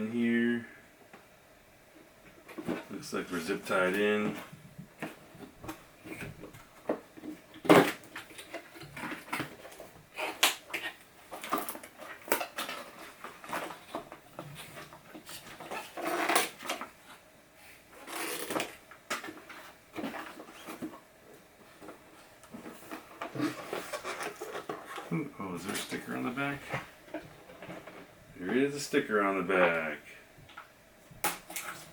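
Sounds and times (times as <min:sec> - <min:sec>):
packaging rustling and crinkling: 0:02.4 - 0:17.2, 0:17.9 - 0:28.7.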